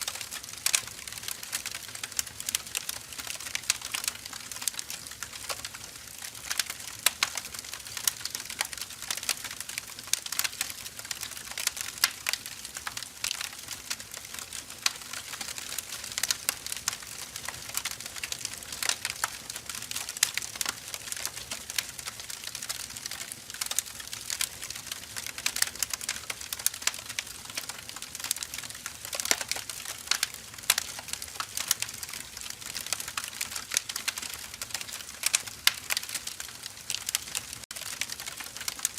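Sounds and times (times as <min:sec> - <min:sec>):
firewood crackling: 0:00.0 - 0:38.9.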